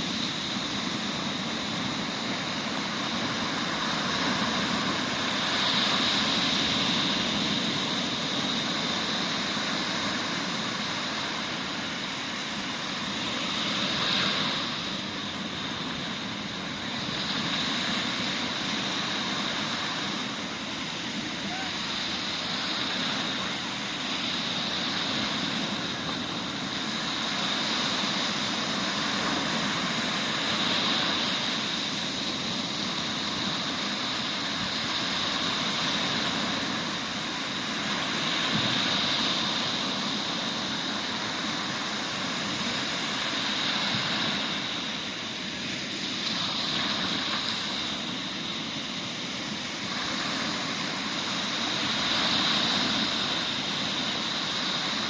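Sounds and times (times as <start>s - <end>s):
waves breaking on sandy beach: 0.0s - 55.0s.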